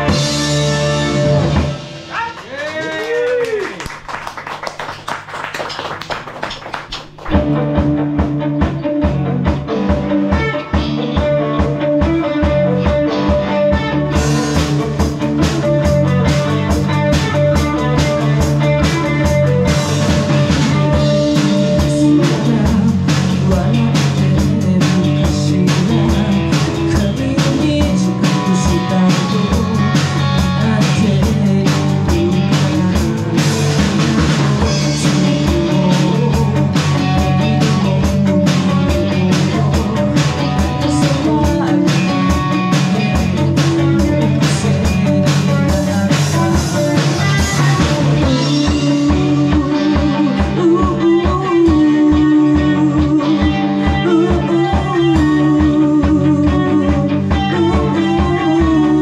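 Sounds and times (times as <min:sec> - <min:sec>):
drums: 0:00.0 - 0:59.0
guitar: 0:00.0 - 0:59.0
rock band playing live: 0:00.0 - 0:59.0.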